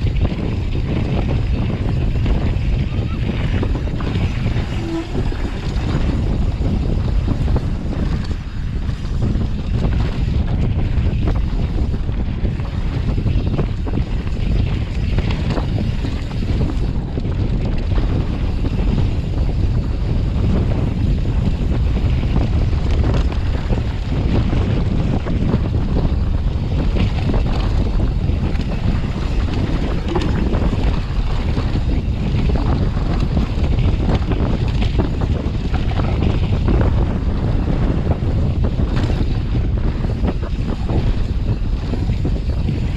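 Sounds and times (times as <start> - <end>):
bike rattling and clattering: 0.0 - 42.9
tyres rumbling on dirt: 0.0 - 42.9
wind buffeting microphone: 0.0 - 42.9.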